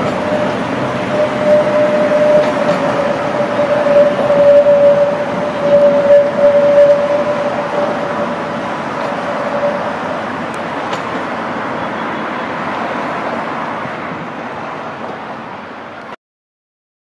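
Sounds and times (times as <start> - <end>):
high tram whine: 0.0 - 16.1
road traffic hum: 0.0 - 16.2.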